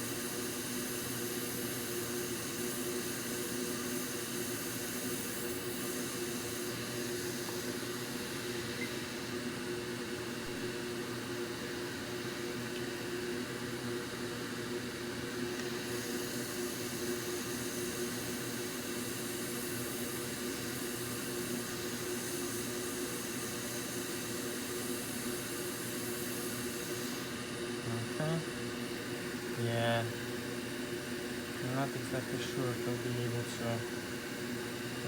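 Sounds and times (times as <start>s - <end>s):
extractor fan whirring: 0.0s - 35.0s.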